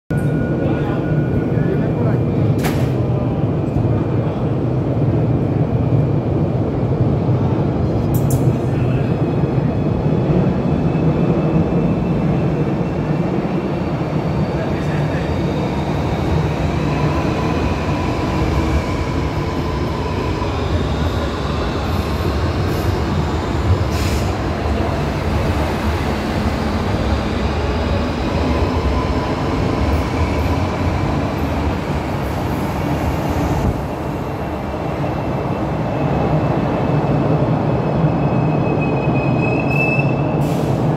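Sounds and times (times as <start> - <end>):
train wheels rumbling on rails: 0.2 - 40.9.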